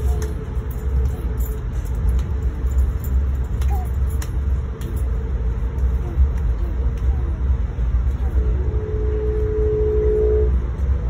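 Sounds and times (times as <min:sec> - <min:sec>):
steady hum: 0:00.0 - 0:11.0
train rumble: 0:00.0 - 0:11.0.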